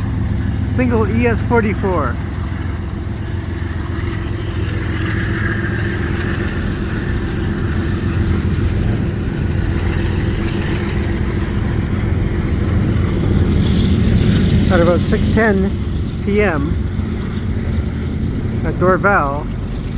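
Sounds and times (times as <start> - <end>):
diesel locomotive engine: 0.0 - 19.9
train rolling rumble: 0.0 - 19.9.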